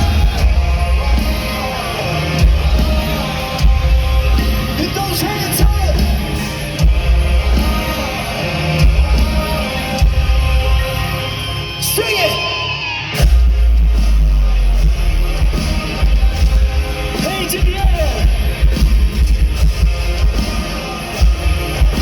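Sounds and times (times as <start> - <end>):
heavy pulsing bass: 0.0 - 11.3, 13.2 - 22.0
live rock band playing: 0.0 - 22.0.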